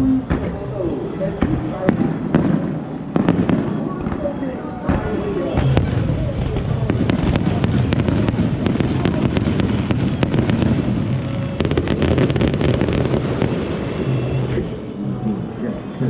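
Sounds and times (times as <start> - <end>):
fireworks bangs and crackles: 0.2 - 0.7, 1.3 - 14.9.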